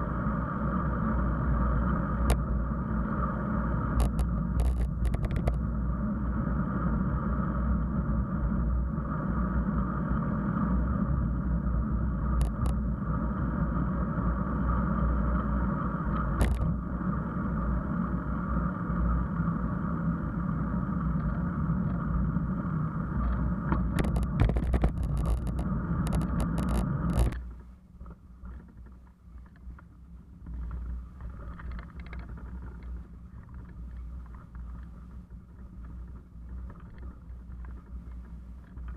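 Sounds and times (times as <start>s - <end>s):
bicycle riding rumble: 0.0s - 38.9s.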